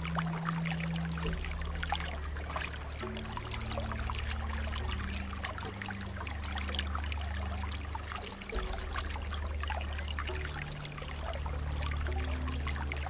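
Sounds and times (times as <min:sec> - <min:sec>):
low sustained drone: 0:00.0 - 0:13.0
water trickling and splashing: 0:00.0 - 0:13.0.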